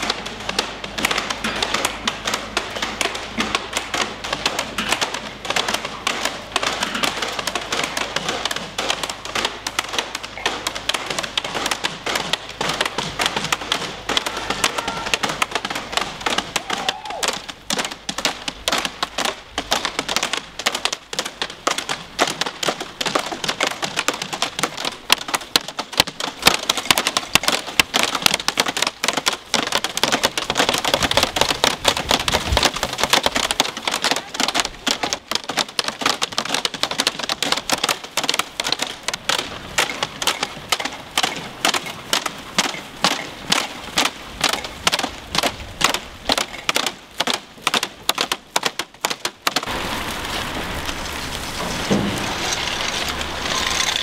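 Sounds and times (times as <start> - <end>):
plastic rustling and clicking: 0.0 - 54.0.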